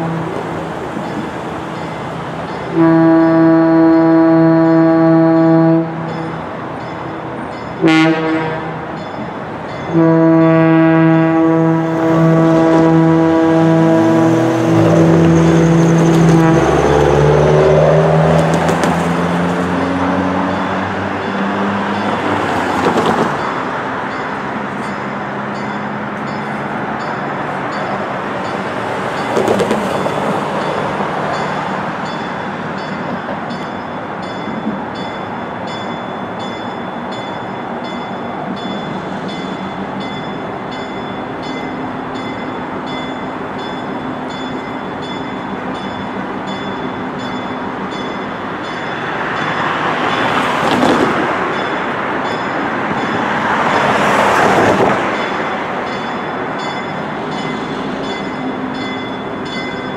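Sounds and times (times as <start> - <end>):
train locomotive rumbling: 0.0 - 59.9.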